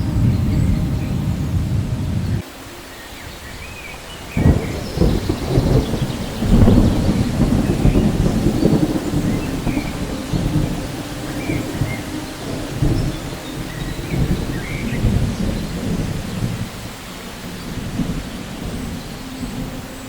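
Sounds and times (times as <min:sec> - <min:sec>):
rolling thunder: 0:00.0 - 0:02.5, 0:03.3 - 0:20.0
thunderclap: 0:00.0 - 0:02.5, 0:04.0 - 0:20.0
steady rain: 0:00.0 - 0:20.0.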